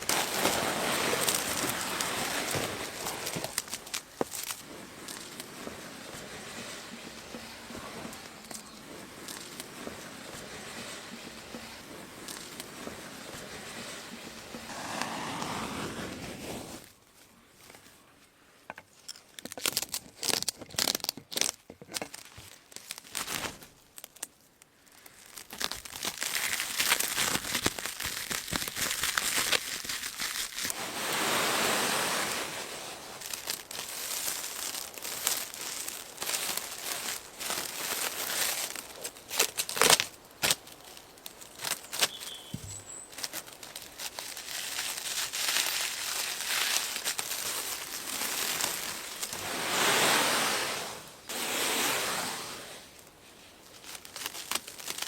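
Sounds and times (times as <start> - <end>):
sharp crackles: 0.0 - 17.0, 19.4 - 55.0
material rustling and crinkling: 0.0 - 55.0.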